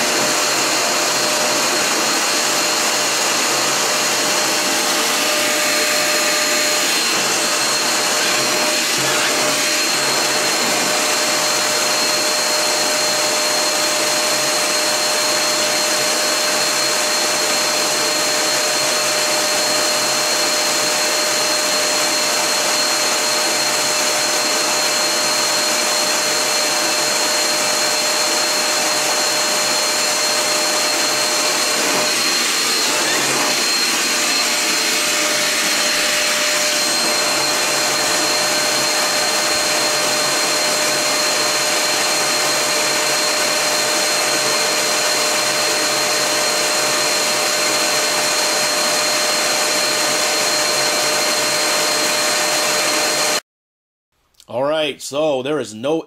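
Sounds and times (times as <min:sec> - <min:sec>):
vacuum cleaner motor whine: 0:00.0 - 0:53.4.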